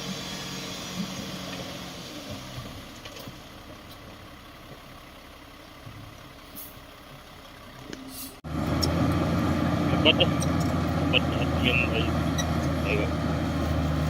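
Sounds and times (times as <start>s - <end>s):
loud engine running close by: 0.0s - 14.0s
distant earthmoving machinery rumbling: 0.9s - 14.0s.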